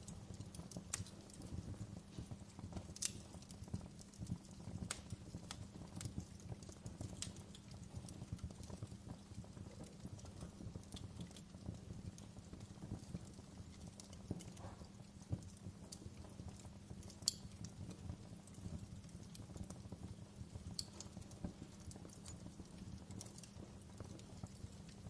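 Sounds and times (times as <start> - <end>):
fire crackling and popping: 0.0 - 25.0
low rumble of flame: 0.0 - 25.0.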